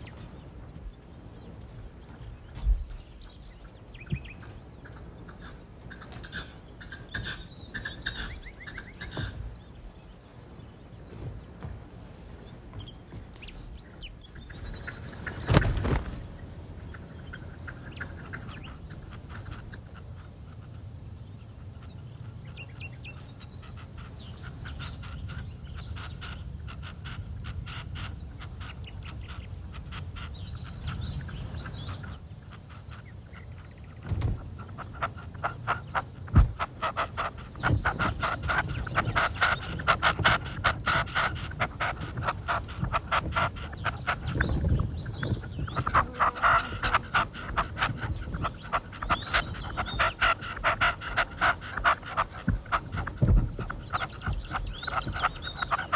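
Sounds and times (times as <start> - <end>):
partridges chattering calls: 0.0 - 55.9.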